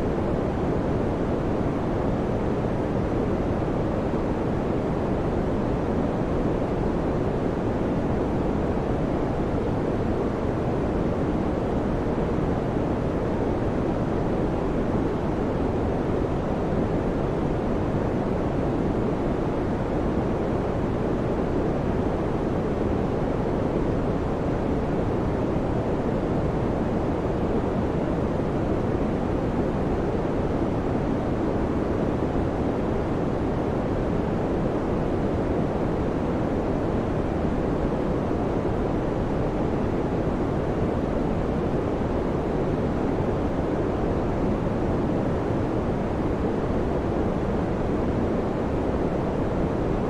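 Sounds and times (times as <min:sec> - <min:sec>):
electric fan rush of air: 0:00.0 - 0:50.0.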